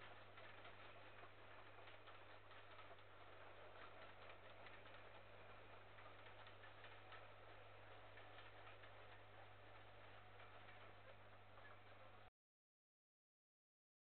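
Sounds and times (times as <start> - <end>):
faint clicks and hiss: 0.0 - 12.3
faint low hum: 0.0 - 12.3.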